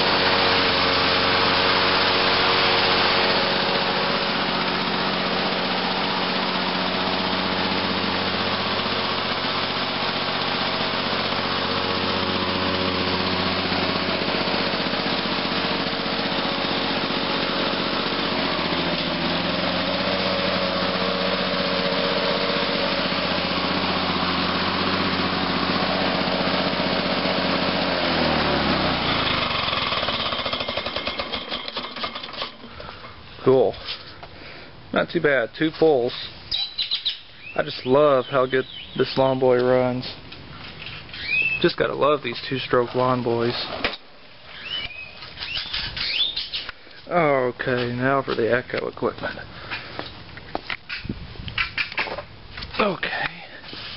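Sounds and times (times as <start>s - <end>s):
engine coasting to a stop: 0.0s - 34.4s, 38.2s - 53.9s
lawn mower engine running: 0.0s - 34.9s, 37.7s - 53.9s.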